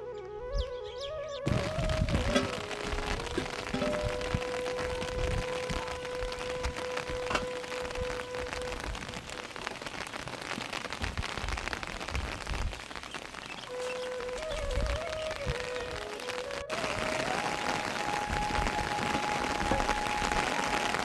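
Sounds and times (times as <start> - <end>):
rain pattering on a surface: 1.5 - 21.0.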